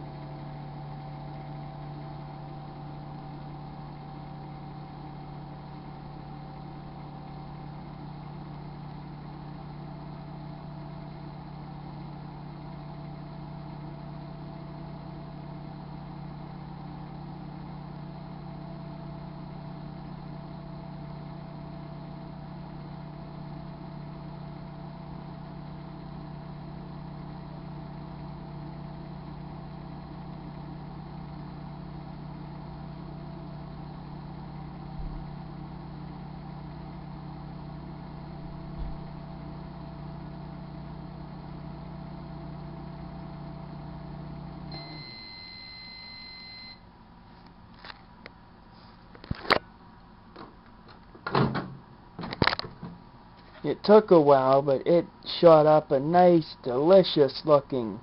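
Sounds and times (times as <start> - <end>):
microwave oven humming: 0.0 - 58.0.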